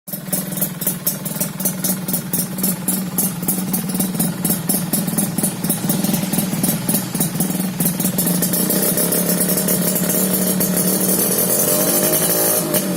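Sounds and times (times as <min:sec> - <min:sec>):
two-stroke engine idling: 0:00.1 - 0:12.9.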